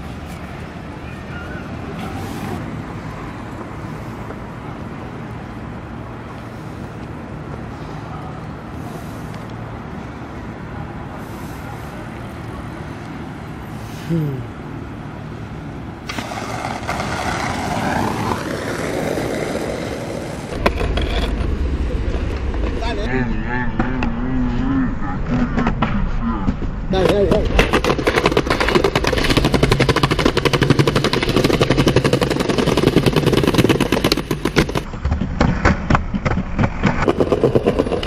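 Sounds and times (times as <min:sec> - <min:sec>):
vehicle passing: 0:00.0 - 0:34.9
city traffic rumble: 0:00.0 - 0:38.0.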